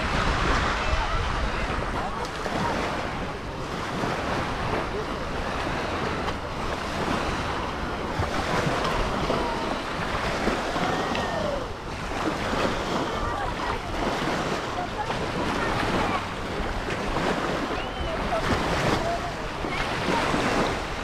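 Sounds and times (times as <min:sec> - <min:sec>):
faint distant voices: 0:00.0 - 0:21.0
small waves washing on shore: 0:00.0 - 0:21.0
wind buffeting microphone: 0:00.0 - 0:21.0.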